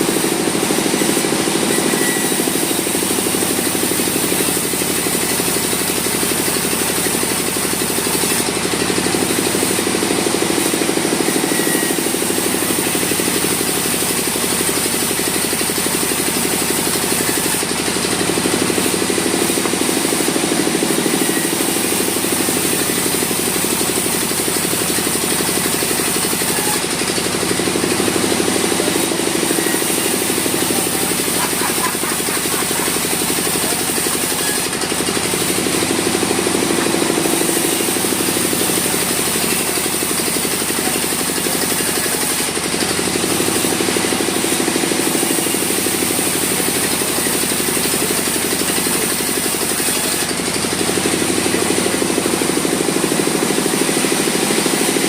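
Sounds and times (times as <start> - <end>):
sawmill machinery whining: 0.0 - 55.0.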